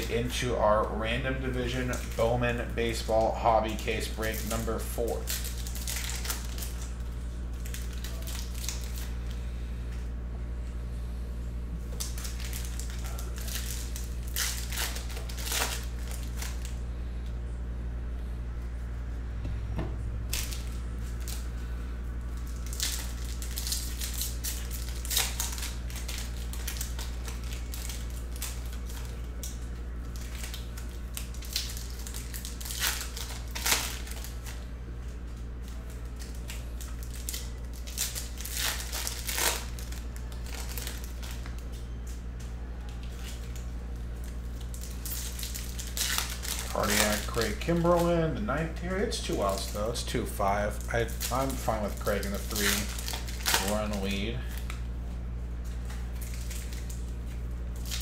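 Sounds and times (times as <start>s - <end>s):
wrappers crinkling and tearing: 0.0s - 9.6s, 11.9s - 16.9s, 20.2s - 54.9s, 55.5s - 58.0s
steady low hum: 0.0s - 58.0s.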